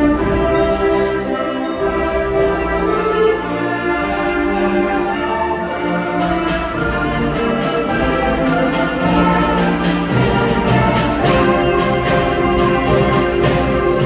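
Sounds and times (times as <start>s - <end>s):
concert band playing: 0.0s - 14.0s
repeated percussion strokes: 0.0s - 14.0s.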